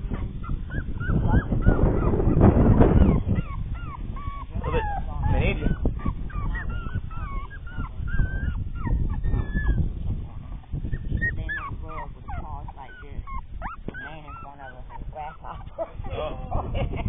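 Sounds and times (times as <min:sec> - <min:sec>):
puppies whining and squeaking: 0:00.0 - 0:16.7
wind rumbling on microphone: 0:00.0 - 0:17.0.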